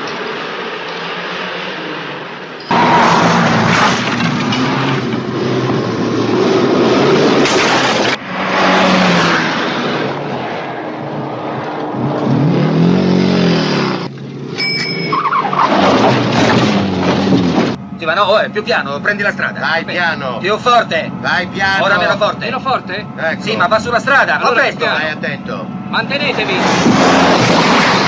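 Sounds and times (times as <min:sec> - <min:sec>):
car engine driven hard: 0:00.0 - 0:28.0.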